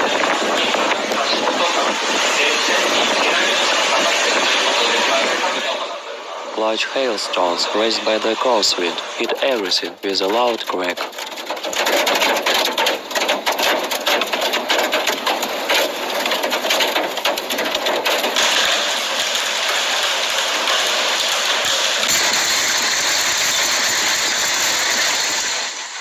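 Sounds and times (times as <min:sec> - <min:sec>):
hailstones pelting hard surfaces: 0:00.0 - 0:05.3, 0:07.4 - 0:26.0
heavy rain: 0:00.0 - 0:26.0.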